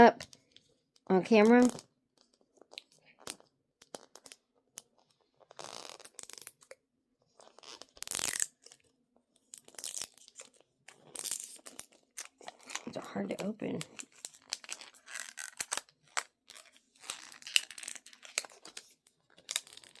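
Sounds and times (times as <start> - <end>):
plastic packaging tearing and crinkling: 2.6 - 6.8, 7.4 - 20.0.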